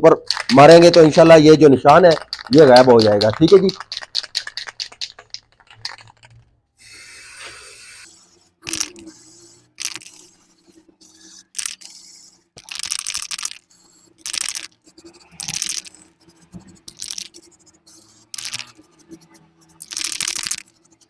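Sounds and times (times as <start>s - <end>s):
spray can hissing bursts: 2.1s - 6.0s, 6.8s - 21.0s.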